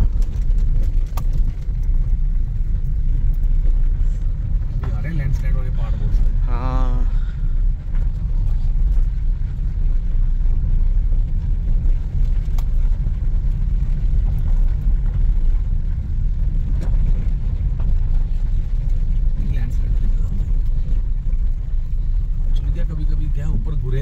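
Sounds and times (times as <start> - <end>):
car driving rumble: 0.0 - 24.0.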